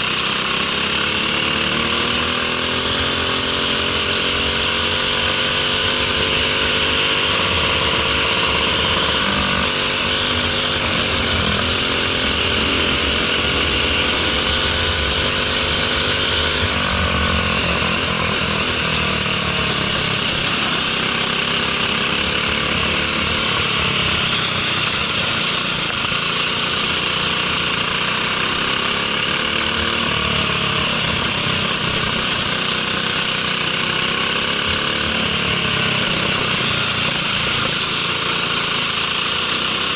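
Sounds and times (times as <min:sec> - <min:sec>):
kart engine accelerating: 0:00.0 - 0:39.9.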